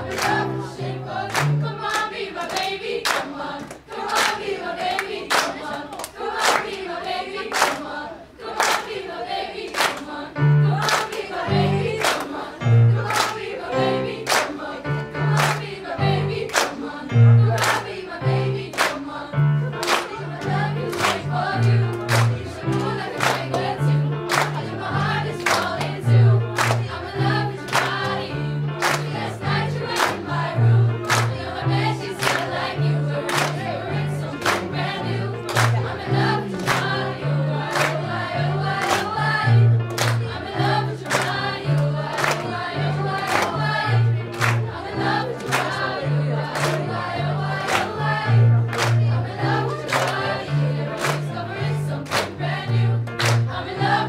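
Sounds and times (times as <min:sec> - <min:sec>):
keyboard accompaniment: 0:00.0 - 0:02.6, 0:10.4 - 0:54.0
girls' choir singing pop song: 0:00.0 - 0:54.0
steady beat of sharp claps: 0:00.0 - 0:54.0.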